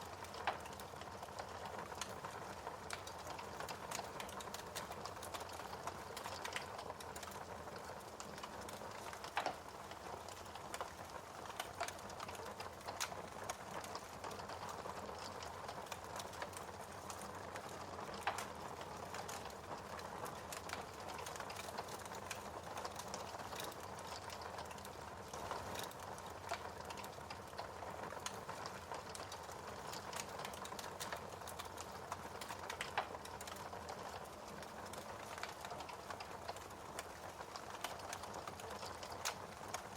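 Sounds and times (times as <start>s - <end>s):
fire crackling and popping: 0.0s - 39.9s
fire snaps: 0.0s - 39.9s.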